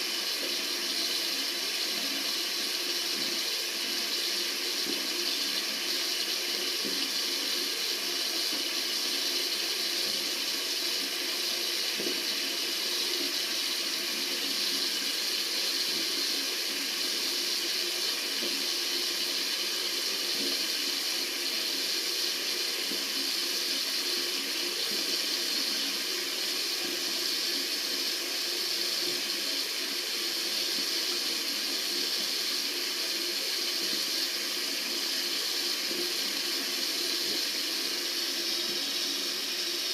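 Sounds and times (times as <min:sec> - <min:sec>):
tap water running into a sink: 0:00.0 - 0:39.9.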